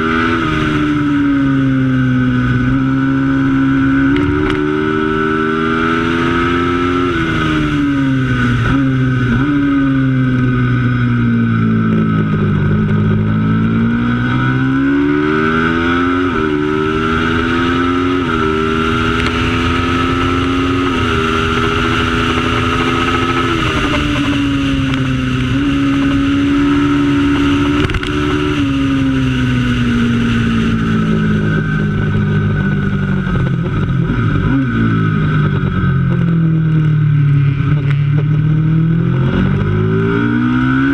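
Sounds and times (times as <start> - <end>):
racing motorcycle engine: 0.0 - 40.9.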